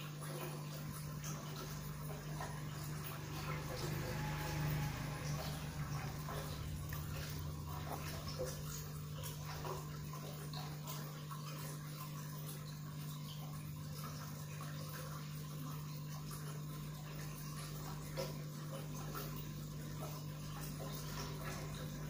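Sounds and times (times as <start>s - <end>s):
aquarium pump hum: 0.0s - 22.0s
aquarium water trickling: 0.0s - 22.0s.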